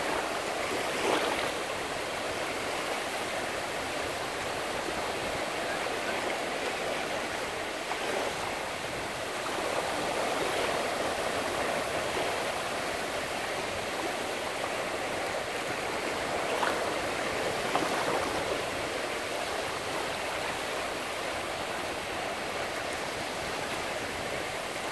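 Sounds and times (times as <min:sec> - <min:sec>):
small waves on sandy shore: 0:00.0 - 0:24.9.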